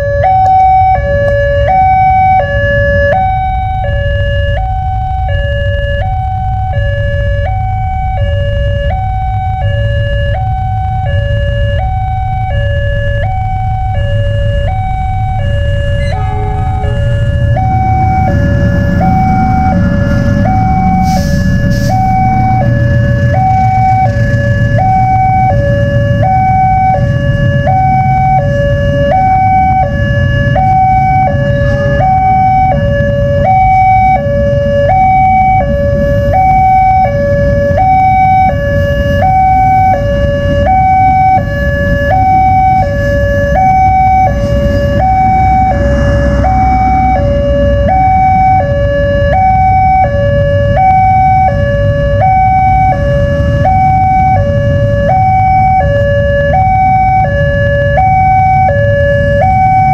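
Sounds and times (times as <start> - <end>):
two-tone crossing warning siren: 0.0 - 59.9
train passing rumble: 0.5 - 57.5.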